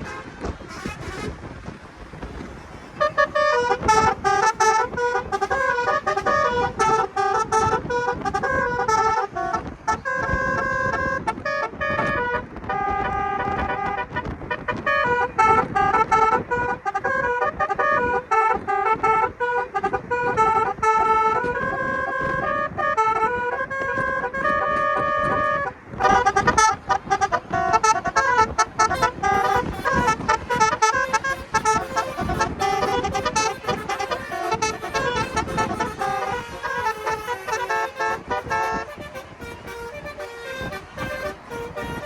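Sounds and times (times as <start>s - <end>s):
musical car horn playing a tune: 0.0s - 1.5s, 3.0s - 42.0s.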